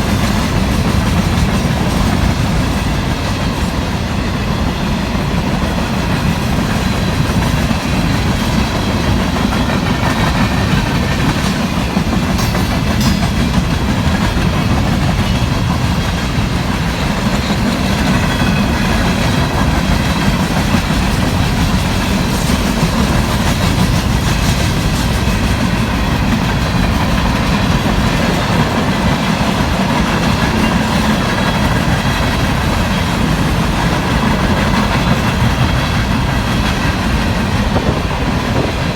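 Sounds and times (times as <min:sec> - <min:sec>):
freight train wheels clattering on rails: 0:00.0 - 0:38.9.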